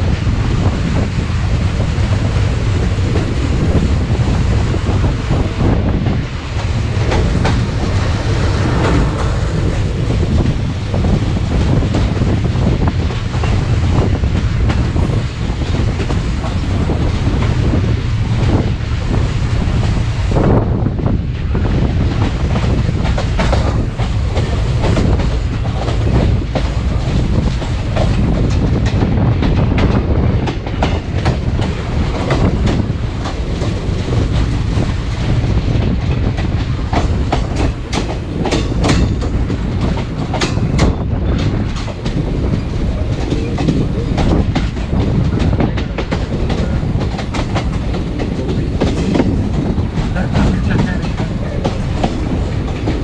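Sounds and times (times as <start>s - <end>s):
train rumbling: 0.0s - 53.0s
wheels clacking over rail joints: 2.0s - 20.3s, 21.3s - 53.0s.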